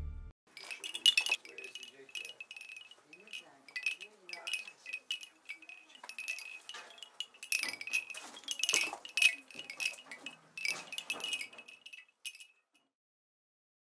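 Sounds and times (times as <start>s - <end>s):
bamboo wind chimes knocking: 0.5s - 12.8s.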